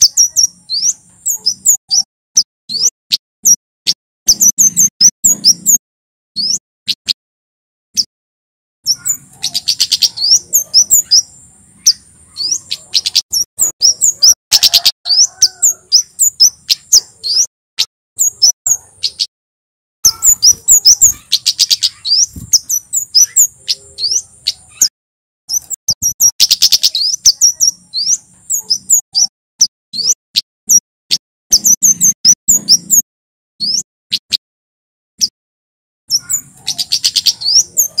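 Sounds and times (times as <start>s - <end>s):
bird singing high chirps: 0.0s - 3.6s, 4.3s - 5.8s, 6.4s - 7.1s, 8.8s - 17.5s, 18.2s - 19.3s, 20.0s - 24.9s, 25.5s - 33.0s, 33.6s - 34.4s, 36.1s - 38.0s.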